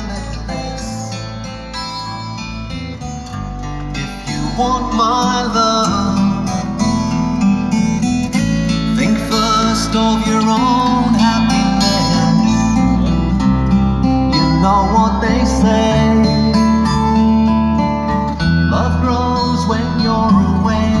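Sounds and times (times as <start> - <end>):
pop song on car stereo: 0.0 - 21.0.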